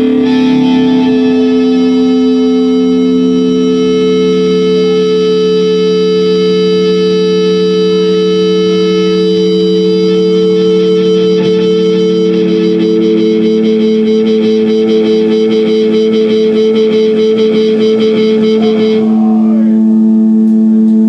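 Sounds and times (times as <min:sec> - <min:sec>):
guitar chord drone through effects: 0:00.0 - 0:21.0.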